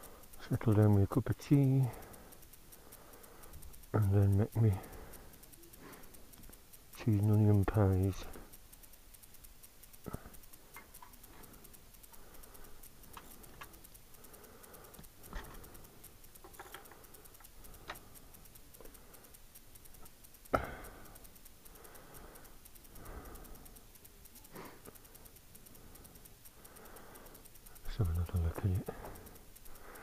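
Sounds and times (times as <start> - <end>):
faint clicks and light knocks: 0.0 - 30.0.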